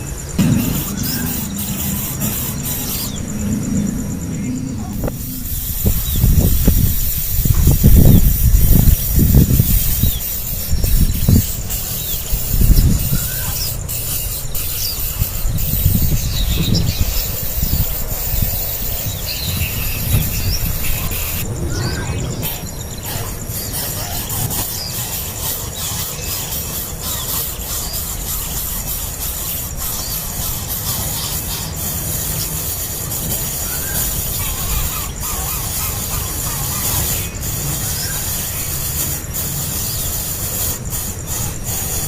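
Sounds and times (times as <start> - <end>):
nestling birds squeaking: 0.0 - 42.0
steady low rumble: 0.0 - 42.0.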